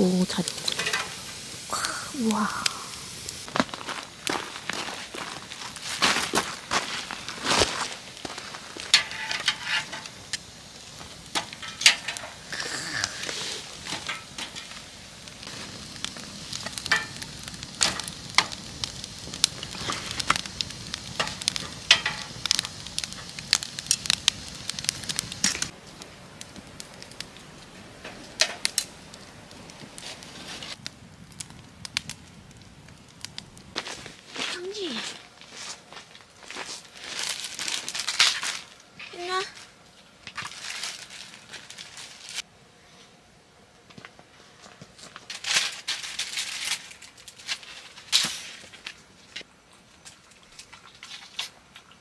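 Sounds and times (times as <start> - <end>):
hiss of flame: 0.0 - 39.6, 45.3 - 49.5
firewood crackling and popping: 0.0 - 42.6, 43.7 - 52.0.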